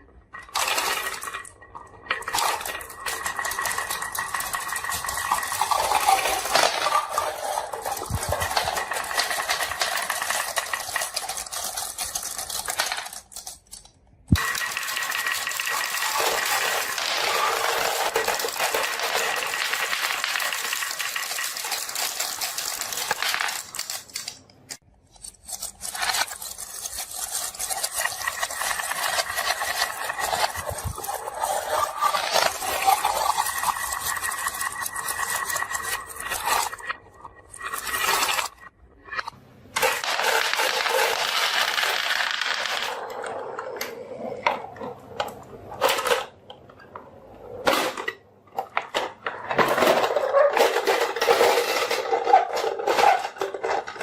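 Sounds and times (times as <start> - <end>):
marbles rolling and clattering: 0.0 - 24.8, 25.6 - 54.0.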